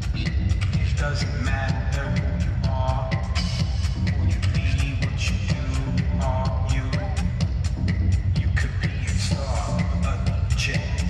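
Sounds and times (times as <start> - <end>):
electronic pop music: 0.0 - 11.0.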